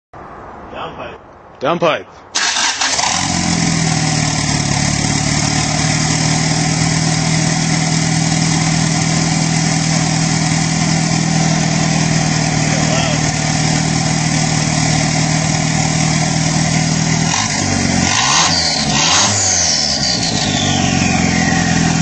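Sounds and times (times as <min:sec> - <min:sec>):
car engine idling loudly: 0:02.4 - 0:22.0.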